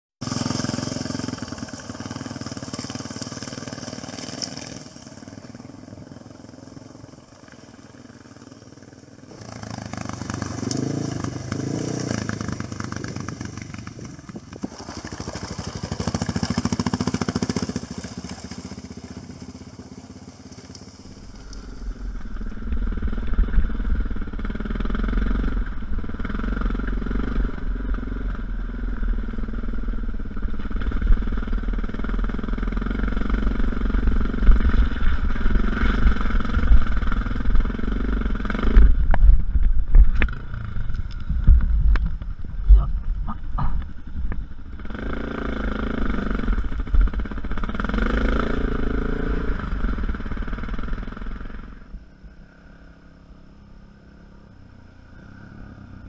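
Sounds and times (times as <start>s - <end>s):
motorcycle engines: 0.2s - 56.0s.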